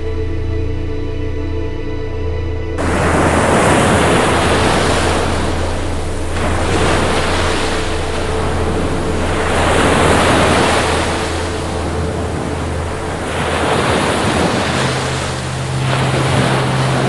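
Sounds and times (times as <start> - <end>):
low rumble: 0.0 - 17.0
waves breaking on shore: 2.8 - 17.0.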